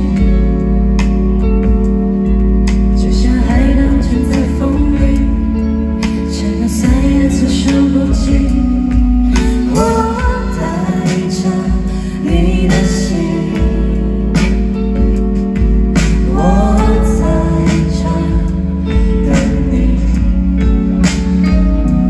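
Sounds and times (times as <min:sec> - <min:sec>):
live rock band playing: 0:00.0 - 0:22.0
person singing: 0:02.5 - 0:22.0.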